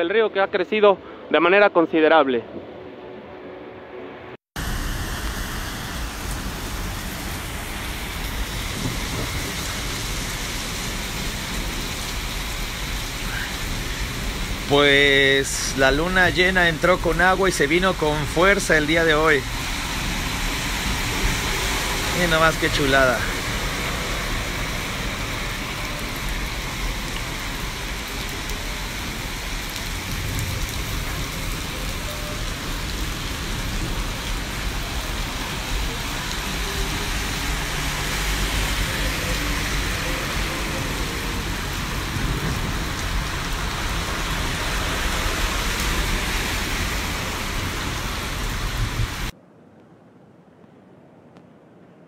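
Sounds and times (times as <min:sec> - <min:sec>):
heavy rain on a flooded street: 0:04.6 - 0:49.4.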